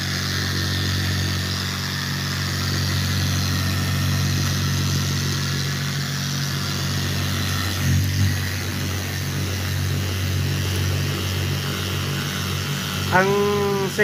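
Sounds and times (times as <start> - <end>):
polisher motor hum: 0.0 - 14.0.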